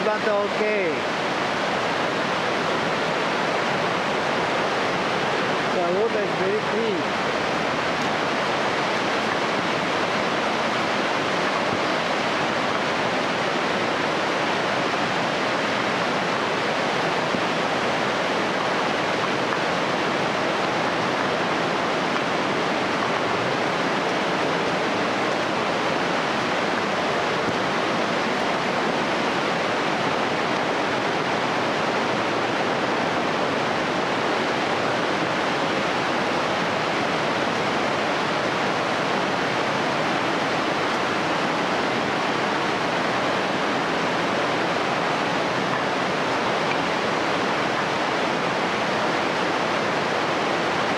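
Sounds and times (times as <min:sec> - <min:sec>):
meltwater rushing and splashing: 0:00.0 - 0:50.9.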